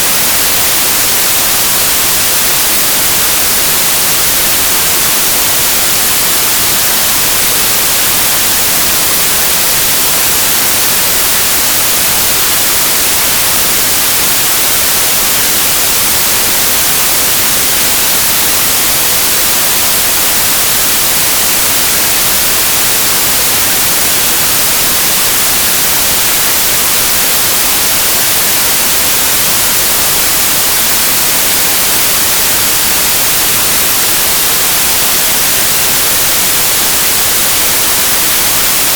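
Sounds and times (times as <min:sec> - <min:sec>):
loud white noise hiss: 0:00.0 - 0:38.9.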